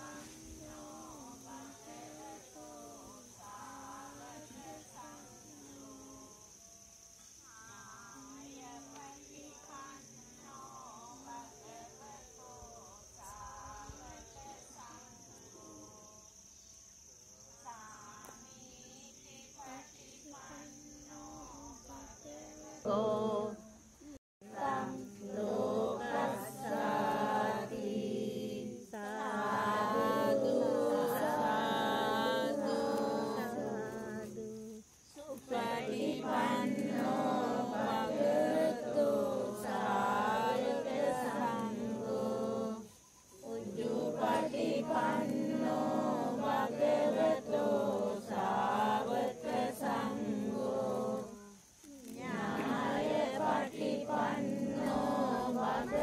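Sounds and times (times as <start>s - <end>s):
monks chanting in unison: 0.0s - 16.4s, 17.4s - 56.0s.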